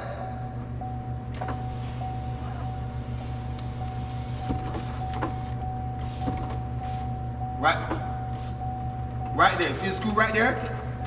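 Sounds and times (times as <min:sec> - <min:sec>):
low mechanical hum: 0:00.0 - 0:11.0
thin steady whine: 0:00.0 - 0:11.0.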